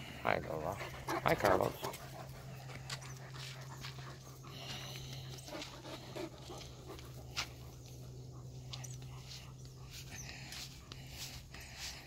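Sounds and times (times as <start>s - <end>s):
dog panting: 0.0s - 12.0s
low hum: 0.0s - 12.0s.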